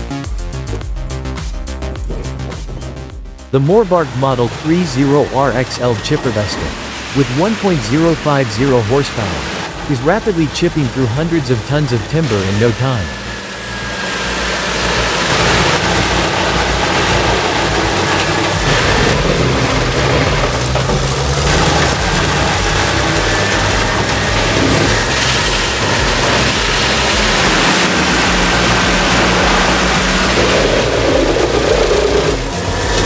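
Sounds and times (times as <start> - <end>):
wood chipper running under load: 3.7 - 33.0.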